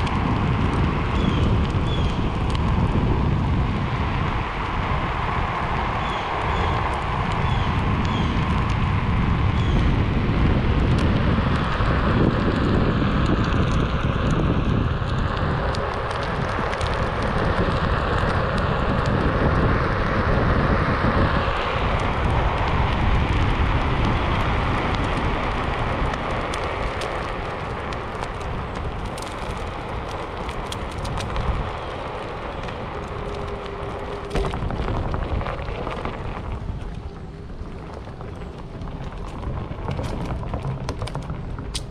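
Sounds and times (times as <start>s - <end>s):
wheel rolling over path: 0.0s - 41.9s
wind buffeting microphone: 0.0s - 41.9s.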